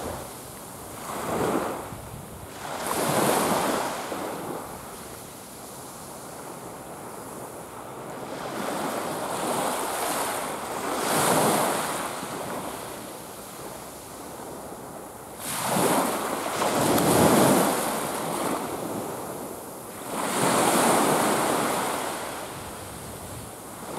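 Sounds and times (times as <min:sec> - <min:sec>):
small waves washing onto beach: 0:00.0 - 0:23.9
wind on microphone: 0:00.0 - 0:23.9.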